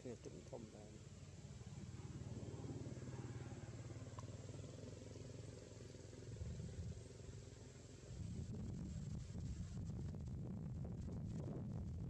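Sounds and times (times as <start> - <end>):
engine running with pulsing hum: 0.0 - 12.0.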